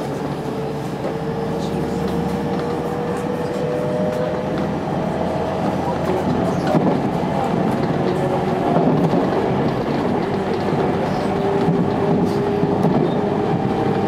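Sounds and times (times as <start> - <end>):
rail clicks: 0.0 - 14.0
steady train hum: 0.0 - 14.0
train wheels rumbling on rail: 0.0 - 14.0.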